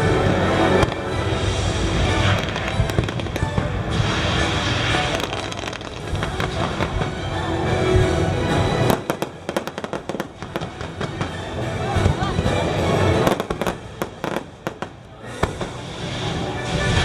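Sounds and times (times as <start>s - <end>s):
fireworks bursting and crackling: 0.0s - 17.0s
loud show music: 0.0s - 17.0s.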